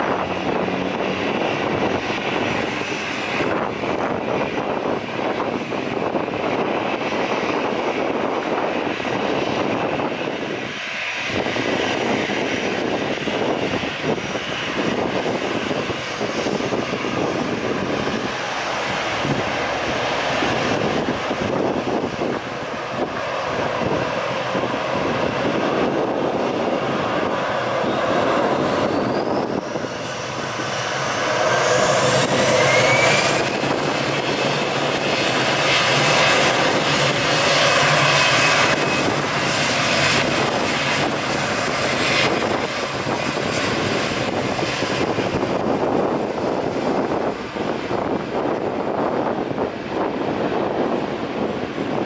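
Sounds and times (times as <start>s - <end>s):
jet engines spooling up: 0.0s - 52.0s.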